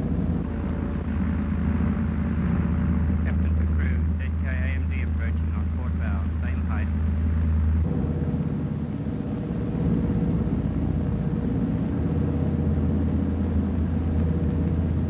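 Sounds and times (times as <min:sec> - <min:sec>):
piston aircraft engines droning: 0:00.0 - 0:15.0.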